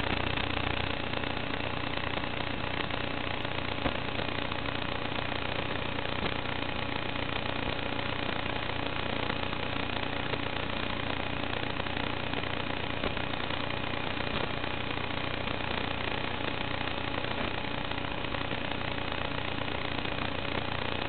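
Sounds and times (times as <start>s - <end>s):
faint steady hum tones: 0.0s - 21.0s
static hiss: 0.0s - 21.0s.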